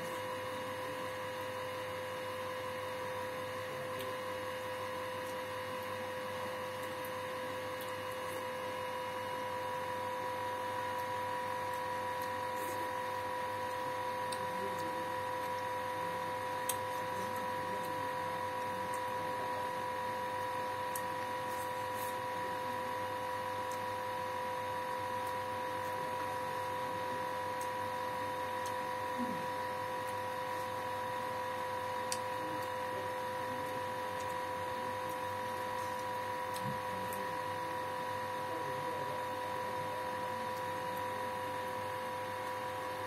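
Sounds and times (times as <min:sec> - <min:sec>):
electrical hum with whine: 0:00.0 - 0:43.0.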